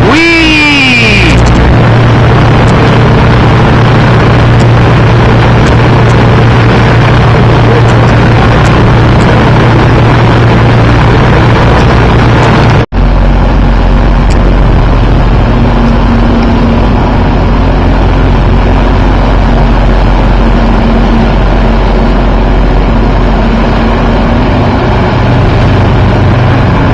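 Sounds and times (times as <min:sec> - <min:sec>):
motorboat engine running: 0:00.0 - 0:26.9
rushing water: 0:00.0 - 0:26.9
wind noise on microphone: 0:00.0 - 0:26.9.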